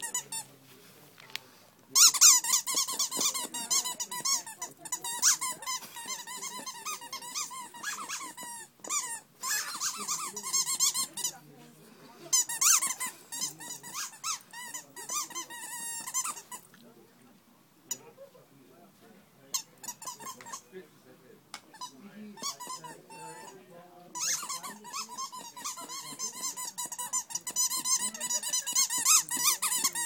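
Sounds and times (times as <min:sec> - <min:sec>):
squeaky toy squeaking: 0:00.0 - 0:00.4, 0:01.9 - 0:11.4, 0:12.3 - 0:16.6, 0:17.9 - 0:18.2, 0:19.5 - 0:20.7, 0:21.7 - 0:30.0.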